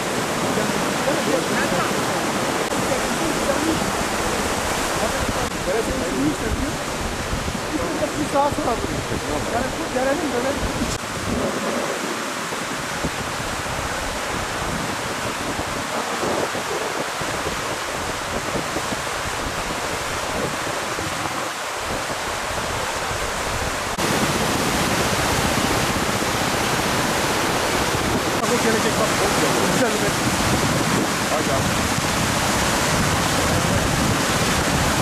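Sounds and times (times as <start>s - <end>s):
flood water rushing: 0.0s - 35.0s.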